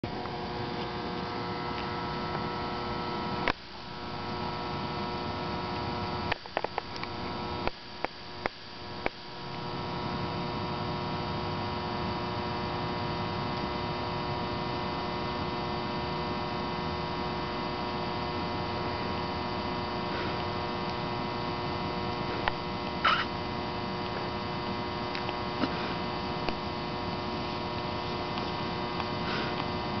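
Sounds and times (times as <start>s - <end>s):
steady tonal hum: 0.0s - 30.0s.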